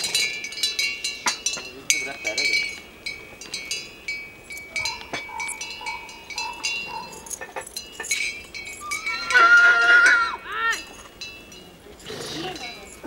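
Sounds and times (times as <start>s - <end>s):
horse bells clinking: 0.0s - 13.0s.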